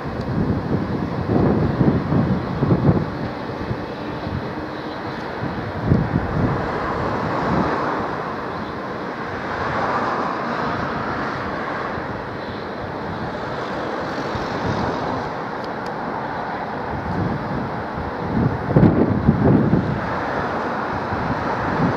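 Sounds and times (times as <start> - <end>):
electric train running roar: 0.0 - 21.9
wind buffeting microphone: 0.0 - 21.9.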